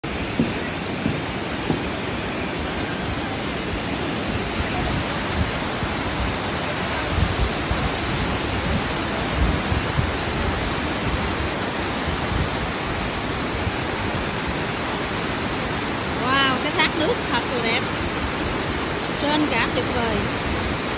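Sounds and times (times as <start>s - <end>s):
waterfall rushing over rocks: 0.0s - 20.9s.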